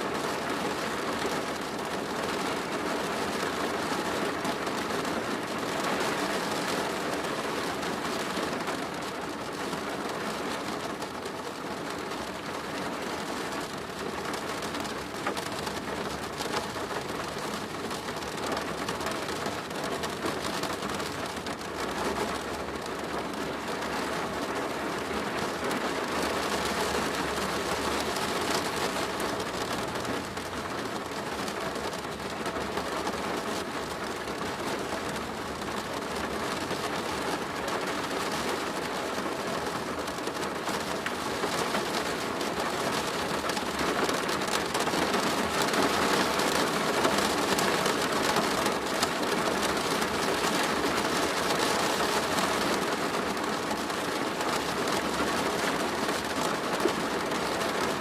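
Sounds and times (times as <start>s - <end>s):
rain on a plastic roof: 0.0s - 58.0s.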